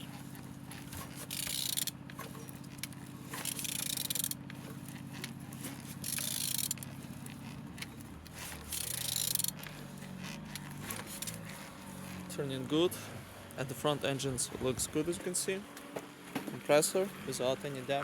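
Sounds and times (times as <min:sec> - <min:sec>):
crankshaft scraping when turned: 0:00.0 - 0:16.2.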